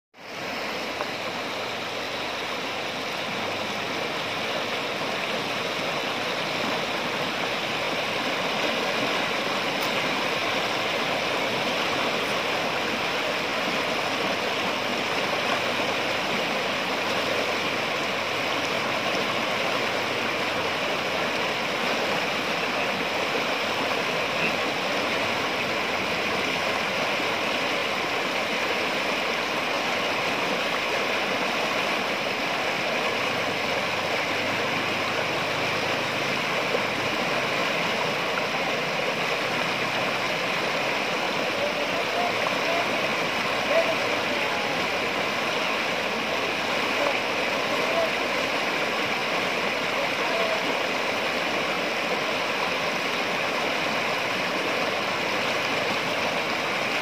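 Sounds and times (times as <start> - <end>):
river rapids rushing: 0.2 - 57.0.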